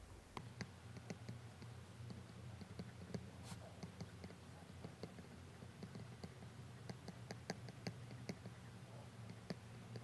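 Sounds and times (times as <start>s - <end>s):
faint steady low hum: 0.0s - 10.0s
stylus tapping on tablet screen: 0.3s - 8.6s, 9.2s - 10.0s.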